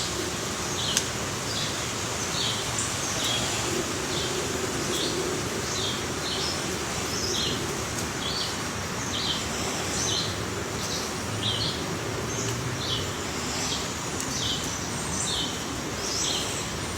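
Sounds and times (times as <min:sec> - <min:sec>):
steady background hiss: 0:00.0 - 0:16.9.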